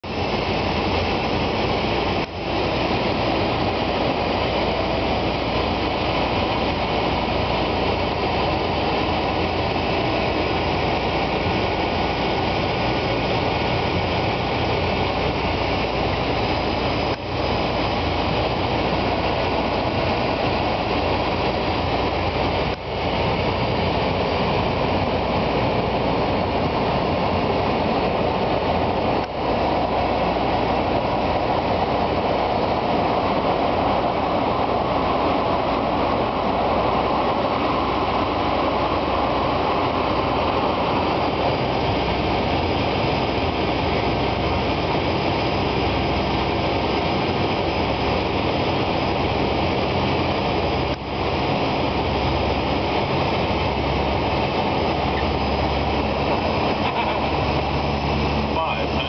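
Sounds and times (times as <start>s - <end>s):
air rushing past cockpit: 0.0s - 59.0s
turboprop engines running: 0.0s - 59.0s.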